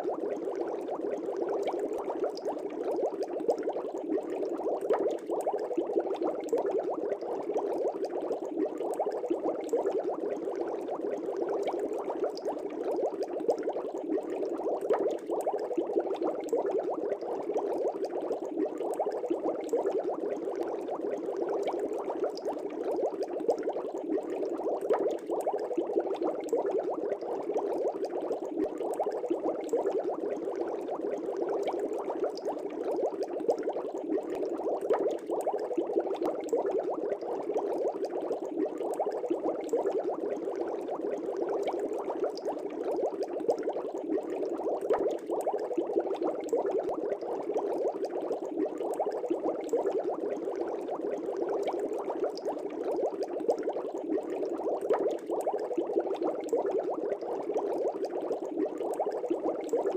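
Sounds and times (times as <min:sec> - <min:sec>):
air bubbles in fish tank: 0:00.0 - 0:59.9.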